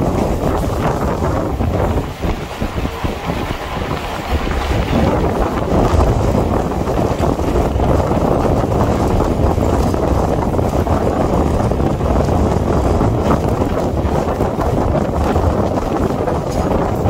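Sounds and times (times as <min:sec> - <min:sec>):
train wheels rumbling on rails: 0:00.0 - 0:17.0
wind buffeting microphone: 0:00.0 - 0:17.0.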